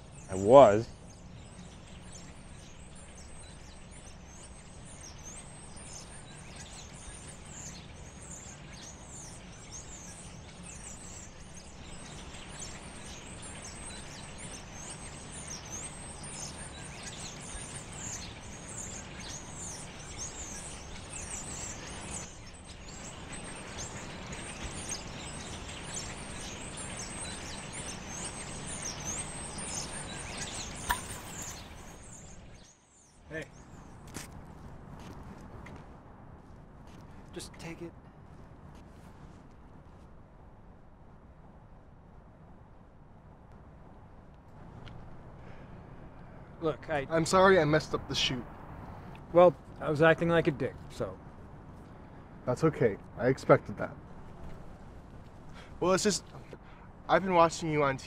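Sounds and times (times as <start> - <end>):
small birds chirping: 0.0 - 40.4, 44.5 - 58.0
low background noise: 0.0 - 58.0.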